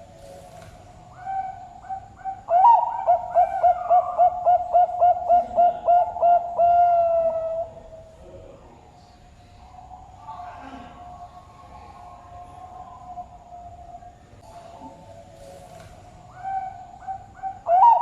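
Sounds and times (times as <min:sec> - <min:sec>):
dove cooing: 0:00.0 - 0:08.1, 0:09.6 - 0:18.0.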